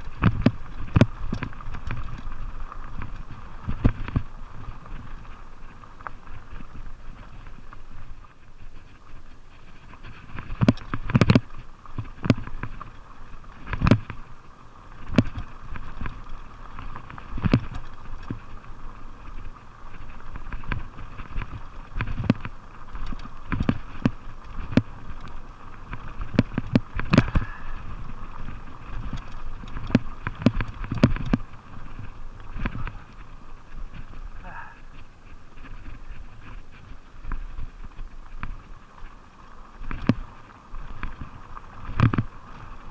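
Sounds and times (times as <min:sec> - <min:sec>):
bike knocking and rattling: 0:00.0 - 0:42.9
bike tyres rumbling on dirt: 0:00.0 - 0:42.9.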